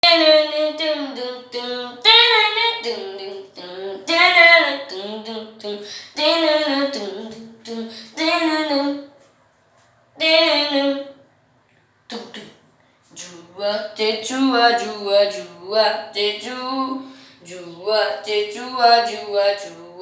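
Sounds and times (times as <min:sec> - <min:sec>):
high voice singing unaccompanied: 0:00.0 - 0:09.2, 0:10.2 - 0:11.2, 0:12.1 - 0:20.0.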